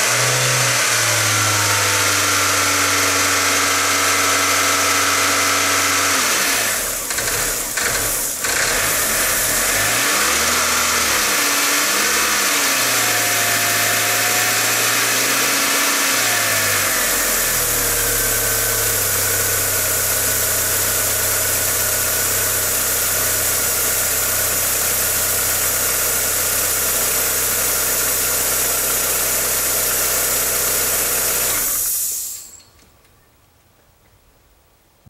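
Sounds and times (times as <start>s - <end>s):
car engine idling with hiss: 0.0s - 32.8s.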